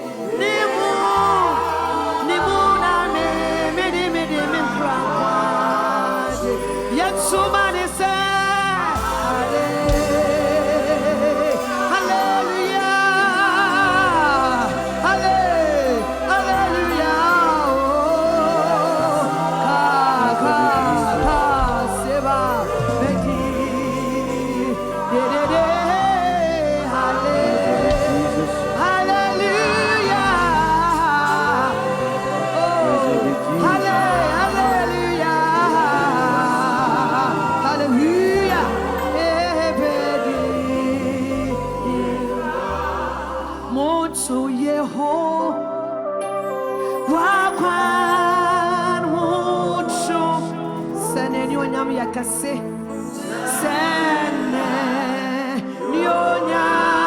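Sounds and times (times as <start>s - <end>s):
person singing with vibrato: 0.0s - 57.0s
sustained backing music: 0.0s - 57.0s.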